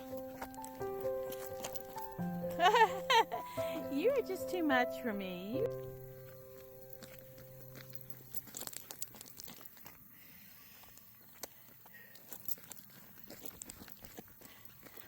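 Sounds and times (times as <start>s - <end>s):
light footsteps crunching: 0.0s - 15.0s.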